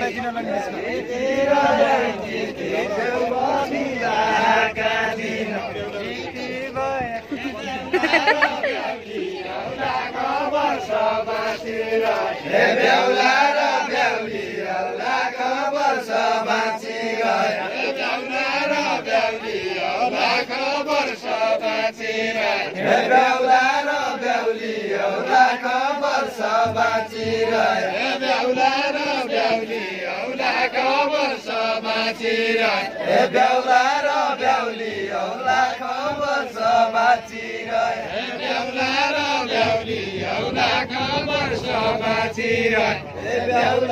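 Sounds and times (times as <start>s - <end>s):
men singing folk song together: 0.0s - 43.9s.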